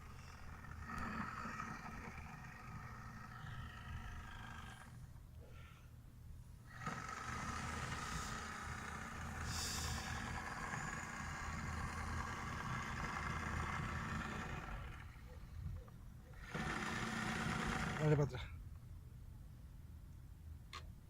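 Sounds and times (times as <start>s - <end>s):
small boat motor running: 0.0s - 5.8s, 6.6s - 18.3s.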